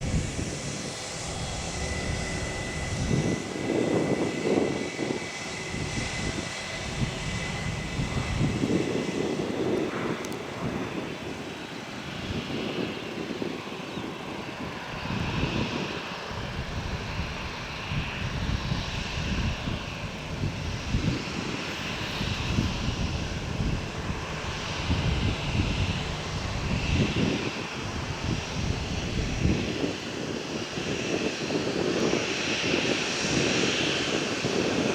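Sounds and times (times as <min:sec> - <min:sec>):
jet engines rumbling: 0:00.0 - 0:34.9.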